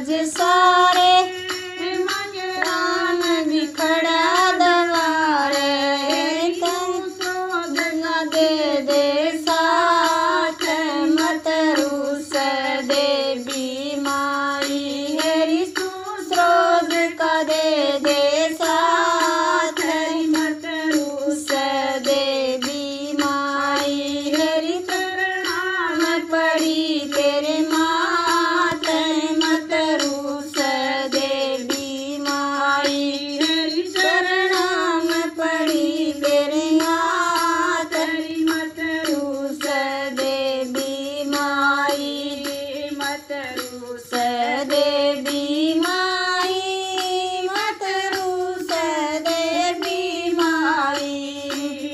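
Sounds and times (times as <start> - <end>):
high voice singing devotional song: 0.0 - 51.9.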